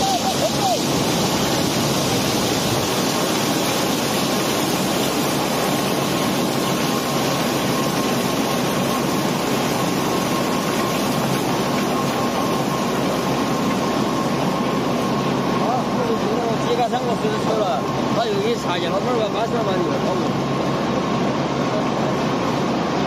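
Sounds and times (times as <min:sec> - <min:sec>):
faint steady whine: 0:00.0 - 0:23.0
machinery rumble: 0:00.0 - 0:23.0.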